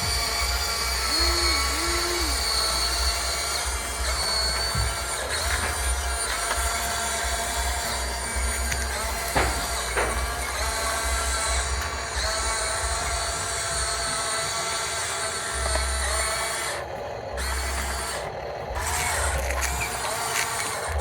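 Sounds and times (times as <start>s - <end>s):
electric motors whining: 0.0s - 21.0s.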